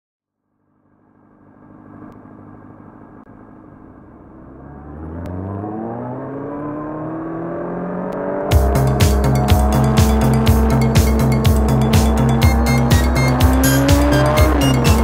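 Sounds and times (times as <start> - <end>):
motorcycle engine accelerating: 0.6 - 15.0.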